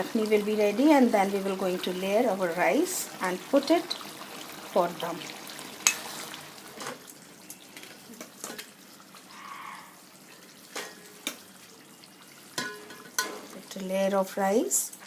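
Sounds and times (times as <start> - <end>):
gravy bubbling in a wok: 0.0 - 14.1.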